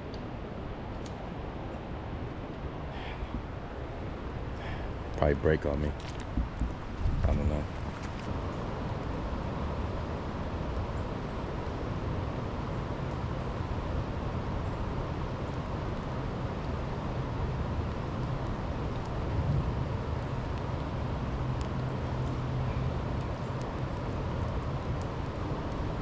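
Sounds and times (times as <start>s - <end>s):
outdoor background rumble: 0.0s - 26.0s.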